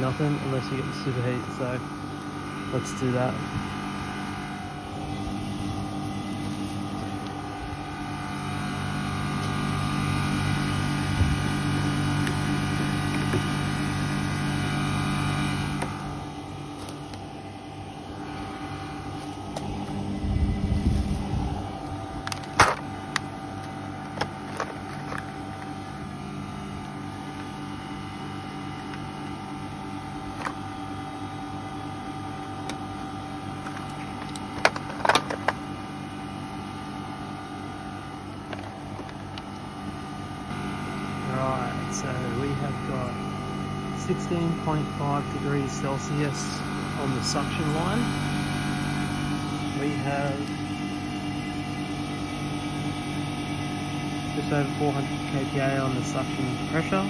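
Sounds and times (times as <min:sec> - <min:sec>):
air conditioner unit humming: 0:00.0 - 0:57.0.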